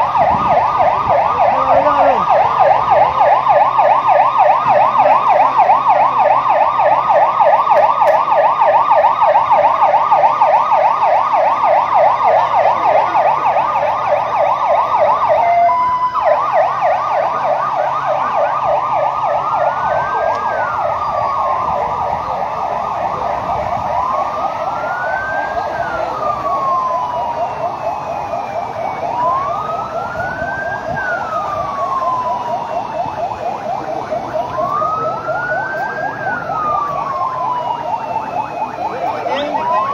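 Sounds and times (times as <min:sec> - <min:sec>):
fast yelping siren: 0:00.0 - 0:39.9
wailing siren rising and falling: 0:00.0 - 0:39.9.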